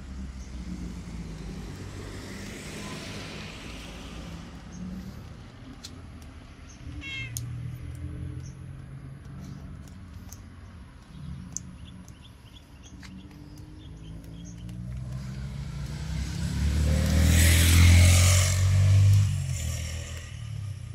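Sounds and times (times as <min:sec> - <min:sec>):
vehicle passing: 0:00.0 - 0:20.9.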